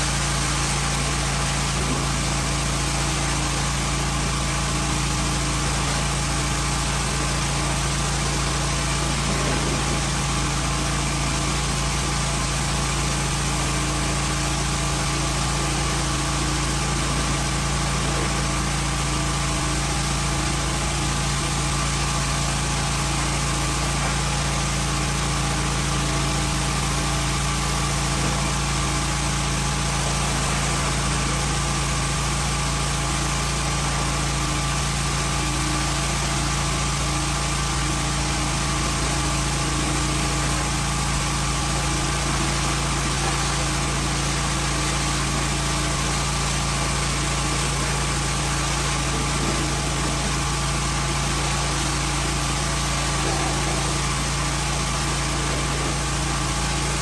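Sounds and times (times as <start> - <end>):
small gas engine running: 0.0 - 57.0
pressure washer spray hiss: 5.4 - 57.0.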